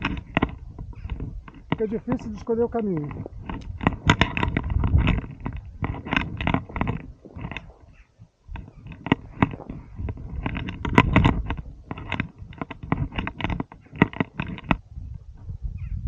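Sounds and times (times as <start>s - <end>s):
footsteps crunching on loose stones: 0.0s - 15.5s.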